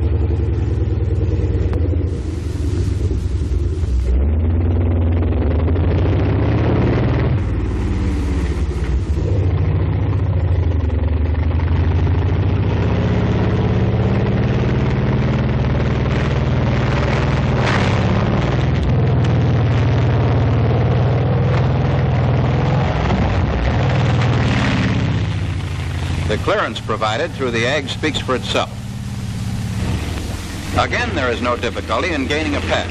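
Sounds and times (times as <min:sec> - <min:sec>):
tank engine droning: 0:00.0 - 0:32.9.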